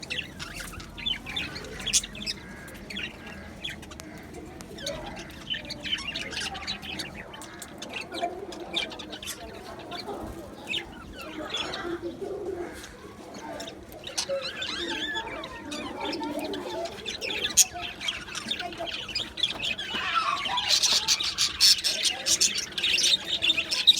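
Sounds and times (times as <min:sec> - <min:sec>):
budgerigars chirping and warbling: 0:00.0 - 0:23.9.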